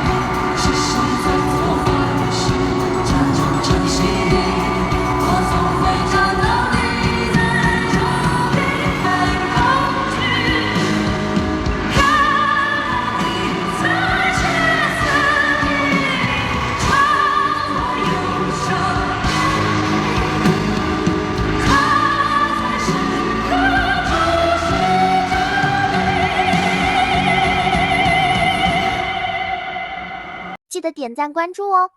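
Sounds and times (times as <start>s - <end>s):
live pop ballad with band: 0.0s - 30.0s.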